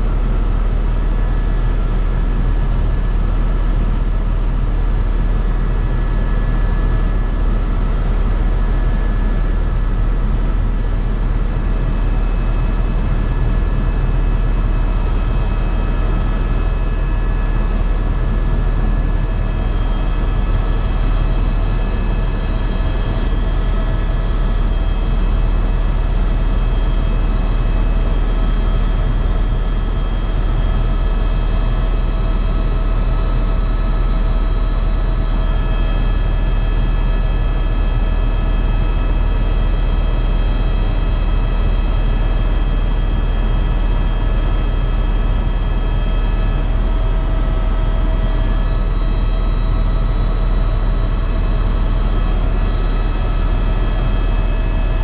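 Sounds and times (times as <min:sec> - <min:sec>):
helicopter cabin drone: 0:00.0 - 0:55.0.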